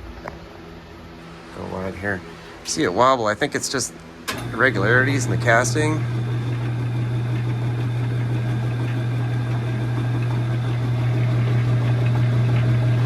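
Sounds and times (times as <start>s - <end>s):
metal lathe humming: 2.2s - 13.0s.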